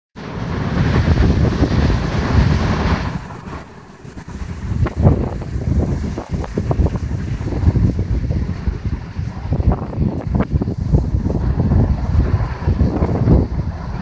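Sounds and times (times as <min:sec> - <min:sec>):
surf breaking on beach: 0:00.2 - 0:14.0
wind buffeting microphone: 0:00.2 - 0:14.0.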